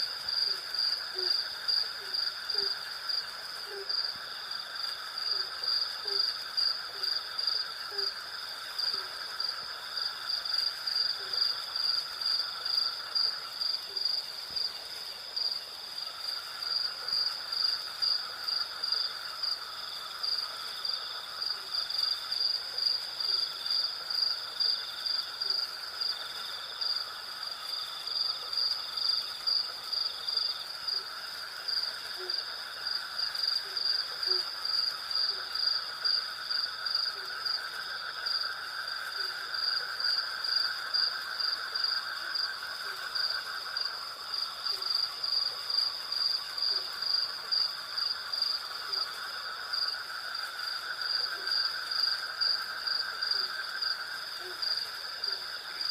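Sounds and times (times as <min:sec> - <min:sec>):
crickets chirping: 0:00.0 - 0:55.9
low insect trill: 0:00.0 - 0:55.9.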